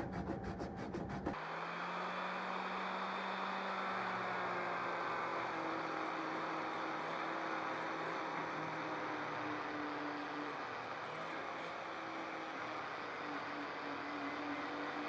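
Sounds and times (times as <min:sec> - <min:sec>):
electric power tool grinding: 0:00.0 - 0:15.0.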